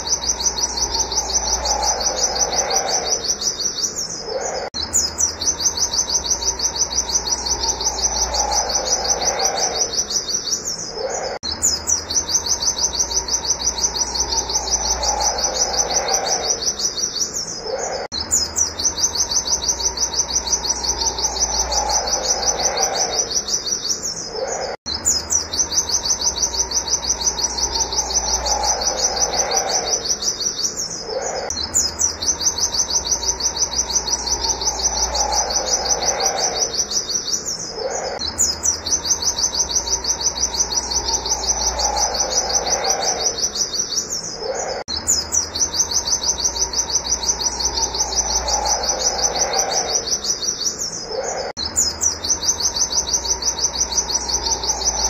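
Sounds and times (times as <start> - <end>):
bird singing rapid high notes: 0.0 - 55.0
lower falling bird call: 0.0 - 55.0.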